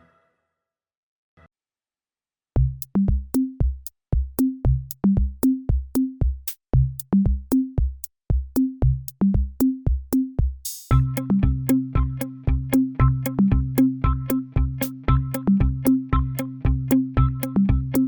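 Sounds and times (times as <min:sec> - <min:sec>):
drum machine beat: 0:02.6 - 0:18.0.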